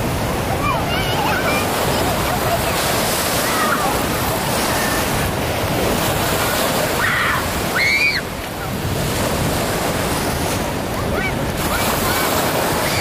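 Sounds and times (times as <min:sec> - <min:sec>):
waves washing on sand shore: 0:00.0 - 0:13.0
wind buffeting microphone: 0:00.0 - 0:13.0.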